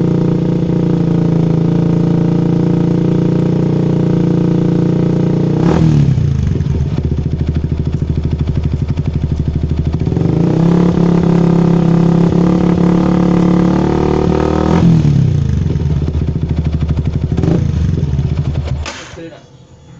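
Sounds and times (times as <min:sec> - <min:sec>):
motorcycle engine revving: 0:00.0 - 0:19.4.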